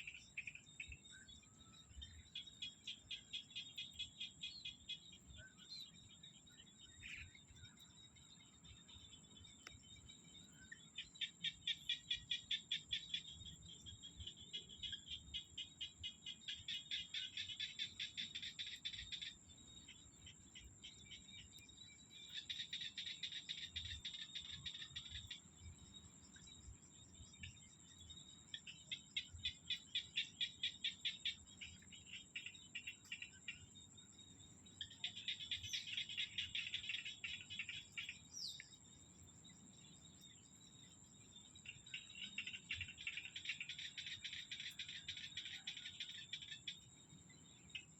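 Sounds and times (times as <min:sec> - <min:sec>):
frogs croaking in rapid pulses: 0:00.0 - 0:47.9
high-pitched insect trill: 0:00.0 - 0:47.9.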